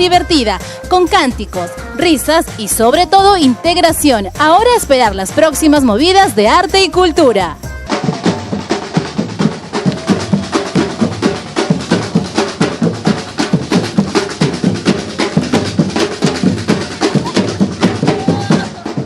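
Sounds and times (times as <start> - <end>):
fast percussion drumming: 0.0 - 19.0.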